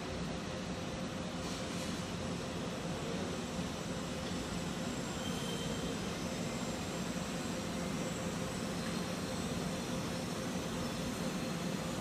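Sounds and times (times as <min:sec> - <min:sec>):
electric train rolling: 0:00.0 - 0:12.0.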